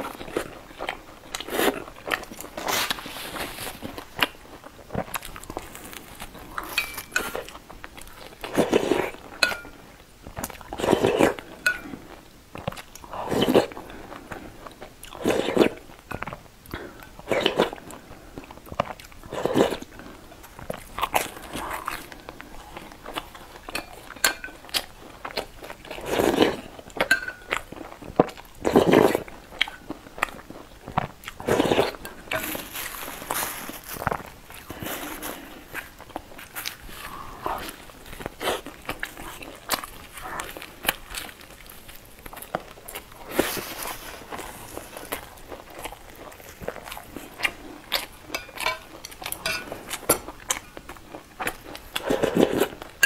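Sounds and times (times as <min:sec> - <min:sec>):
person chewing wetly: 0:00.0 - 0:53.0.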